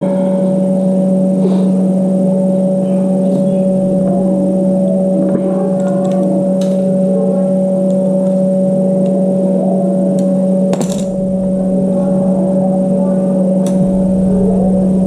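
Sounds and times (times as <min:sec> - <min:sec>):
refrigerator compressor humming: 0:00.0 - 0:15.0.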